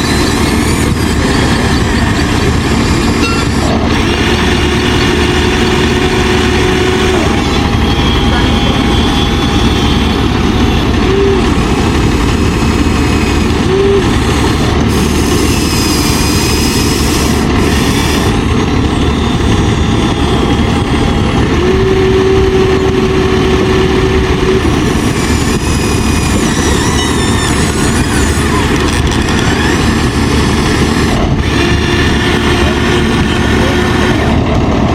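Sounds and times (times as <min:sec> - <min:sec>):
low engine running: 0:00.0 - 0:34.9.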